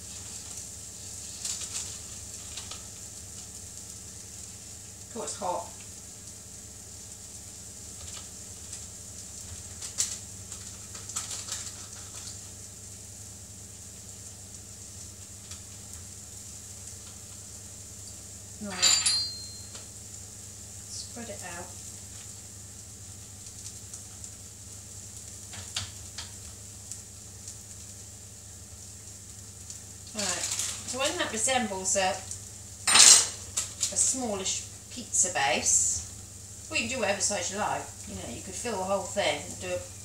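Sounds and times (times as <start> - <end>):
chicken sizzling in frying pan: 0.0 - 18.8, 19.6 - 40.0.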